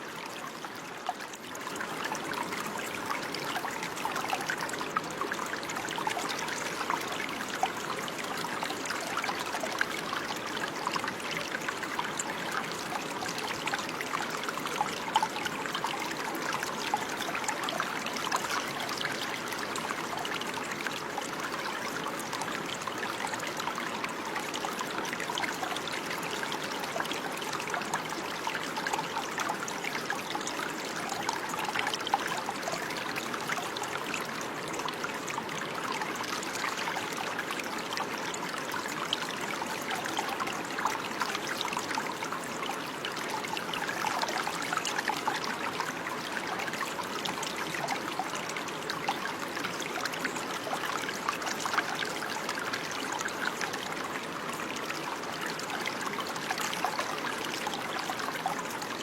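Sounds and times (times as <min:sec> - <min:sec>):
stream trickling and gurgling: 0:00.0 - 0:59.0.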